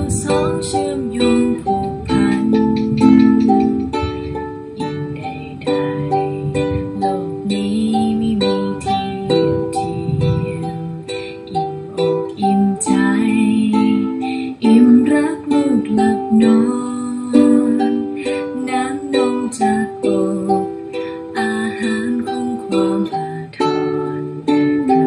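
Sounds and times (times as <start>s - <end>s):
ukulele strumming: 0.0s - 25.0s.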